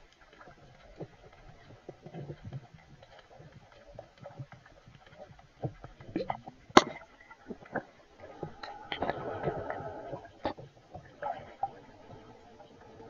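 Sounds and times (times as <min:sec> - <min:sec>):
underwater clicks and knocks: 0:00.0 - 0:12.8.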